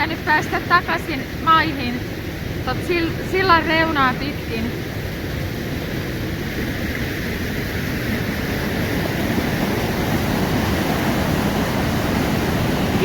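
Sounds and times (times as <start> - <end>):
river water through rapids: 0.0 - 13.0.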